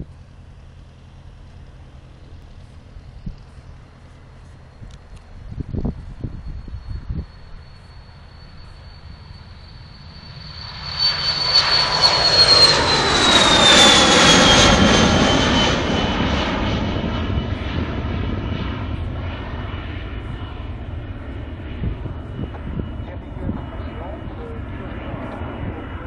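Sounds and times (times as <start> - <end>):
high turbine whine: 0.0 - 26.0
jet roaring past: 0.0 - 26.0.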